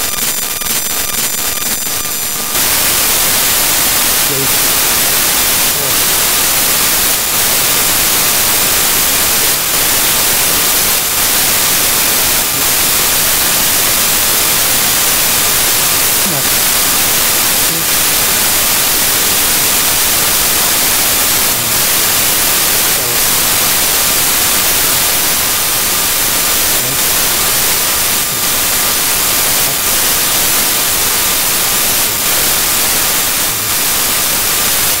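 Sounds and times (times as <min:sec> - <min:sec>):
static hiss: 0:00.0 - 0:35.0.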